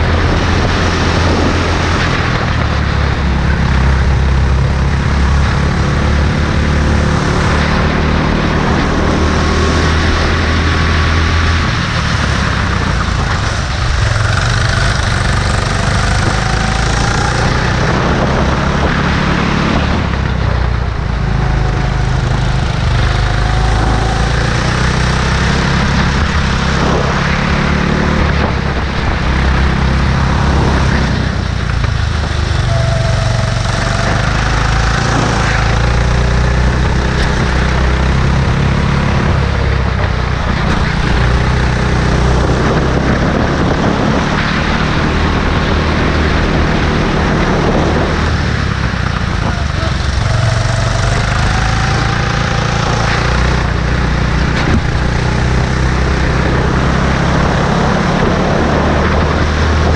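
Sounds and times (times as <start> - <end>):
go-kart engine running hard: 0.0 - 59.9.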